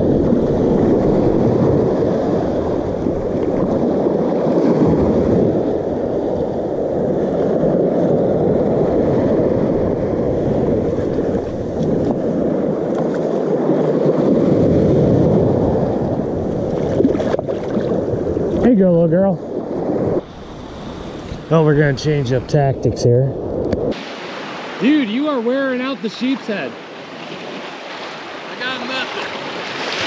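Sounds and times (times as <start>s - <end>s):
waves washing up shore: 0.0s - 22.6s, 23.4s - 30.0s
wind on microphone: 0.0s - 25.8s.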